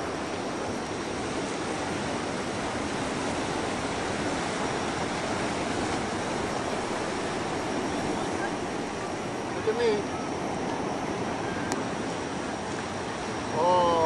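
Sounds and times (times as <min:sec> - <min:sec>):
ocean waves rushing: 0:00.0 - 0:14.0.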